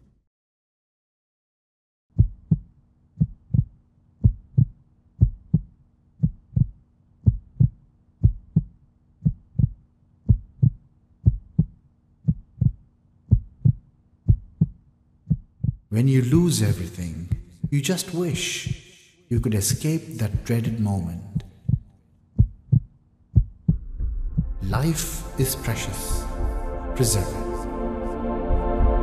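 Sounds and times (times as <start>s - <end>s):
heartbeat thumps: 2.2s - 15.9s, 17.2s - 29.0s.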